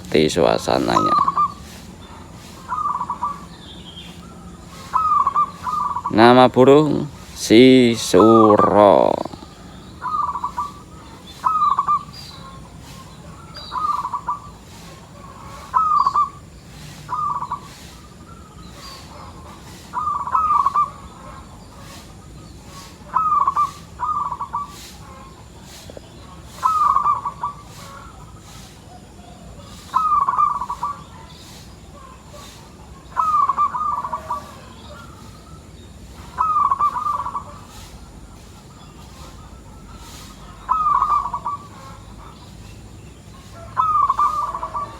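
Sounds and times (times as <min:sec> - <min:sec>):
dove cooing: 0:00.0 - 0:28.8, 0:29.4 - 0:35.5, 0:36.2 - 0:44.9.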